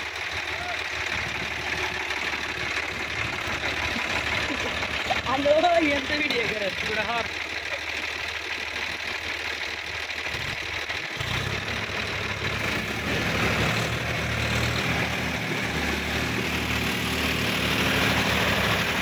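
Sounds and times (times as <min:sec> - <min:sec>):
tractor diesel engines under load: 0:00.0 - 0:19.0.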